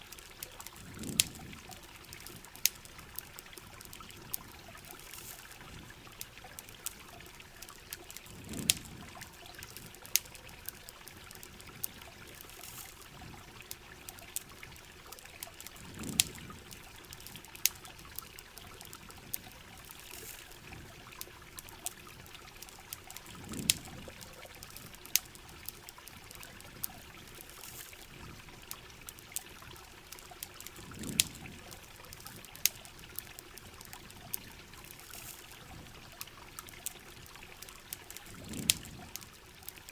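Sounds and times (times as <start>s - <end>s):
campfire crackling and popping: 0.0s - 39.9s
steady rain: 0.0s - 39.9s
trickling water: 0.0s - 39.9s.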